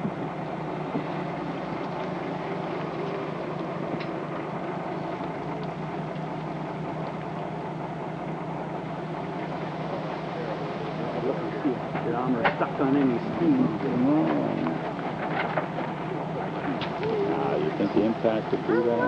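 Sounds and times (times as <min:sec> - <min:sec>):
motor droning: 0:00.0 - 0:19.0.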